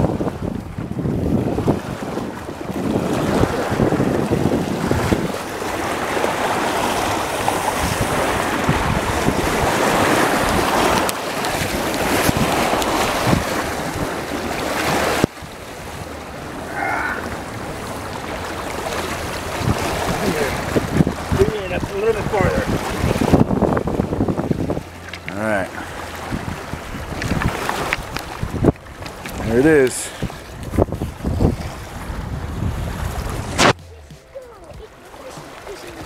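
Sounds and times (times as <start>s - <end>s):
water lapping on rocky shore: 0.0s - 36.0s
wind buffeting microphone: 0.0s - 36.0s.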